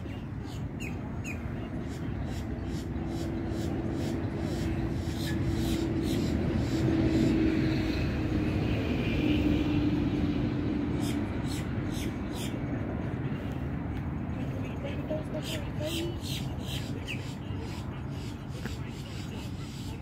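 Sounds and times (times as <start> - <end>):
steady engine drone: 0.0 - 20.0.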